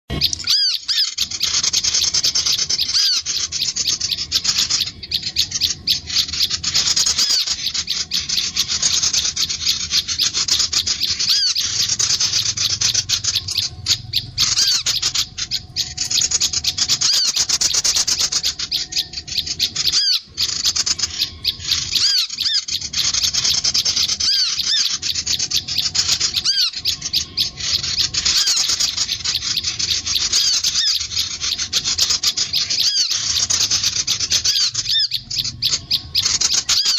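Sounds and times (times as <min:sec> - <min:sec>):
birds chirping and trilling: 0:00.1 - 0:36.9.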